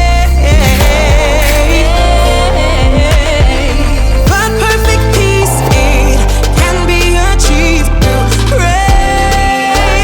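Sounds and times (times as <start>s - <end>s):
pop song with singing: 0.0s - 10.0s.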